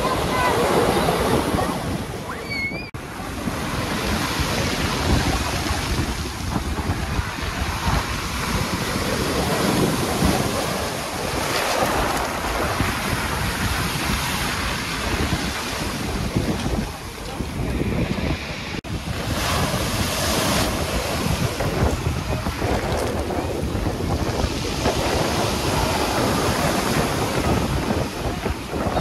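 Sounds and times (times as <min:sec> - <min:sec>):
wind buffeting microphone: 0:00.0 - 0:29.0
surf breaking on pebble beach: 0:03.0 - 0:29.0.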